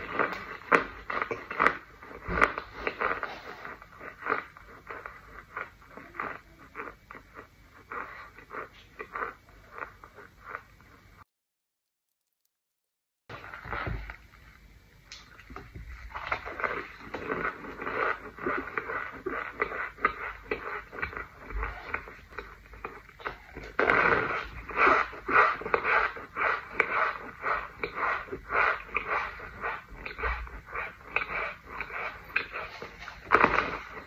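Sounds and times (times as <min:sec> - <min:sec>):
crumbly chewing crunches: 0:00.0 - 0:11.2, 0:13.3 - 0:34.0.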